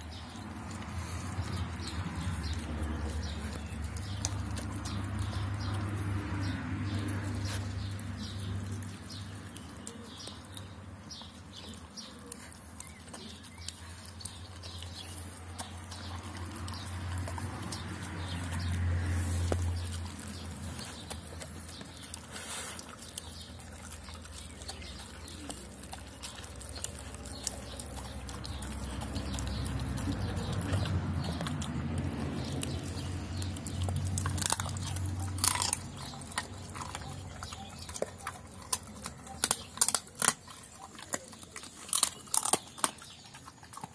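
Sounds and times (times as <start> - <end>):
dog chewing and gulping: 0.0 - 43.9.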